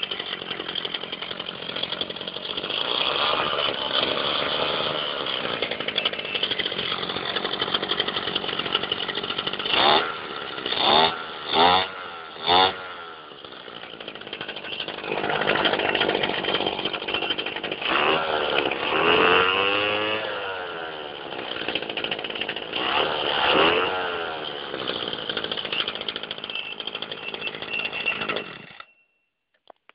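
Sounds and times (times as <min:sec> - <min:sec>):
brush cutter engine revving: 0:00.0 - 0:28.9.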